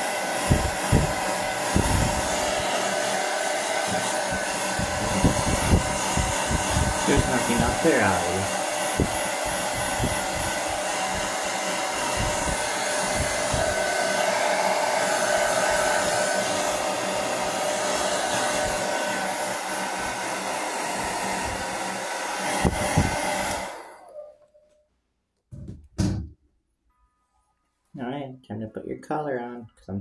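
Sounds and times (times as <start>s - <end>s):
hair dryer blowing: 0.0s - 24.5s.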